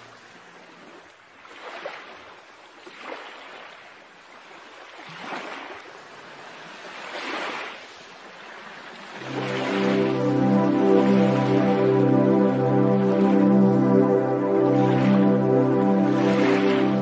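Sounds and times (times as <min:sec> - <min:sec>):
seawater splashing in tide pool: 0:00.0 - 0:17.0.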